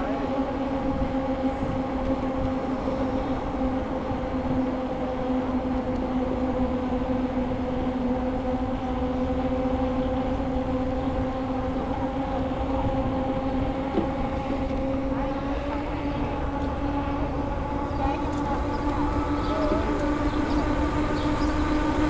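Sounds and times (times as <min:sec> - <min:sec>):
bicycle tyres rolling on pavement: 0:00.1 - 0:22.0.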